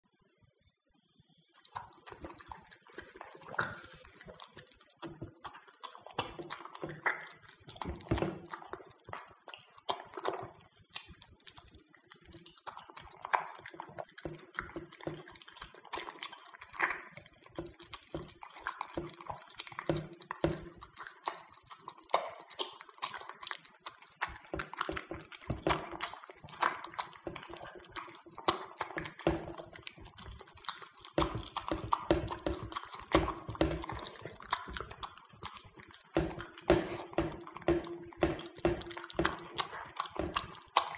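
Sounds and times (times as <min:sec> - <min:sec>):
dog eating with wet smacking: 0:01.6 - 0:40.9.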